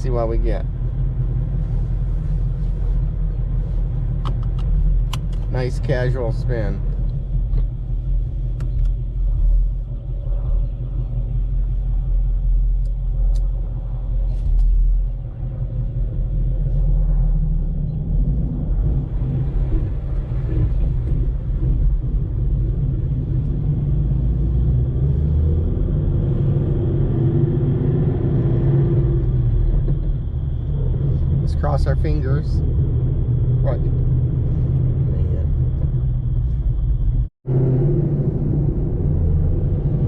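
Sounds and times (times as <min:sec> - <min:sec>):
car engine low rumble: 0:00.0 - 0:40.0.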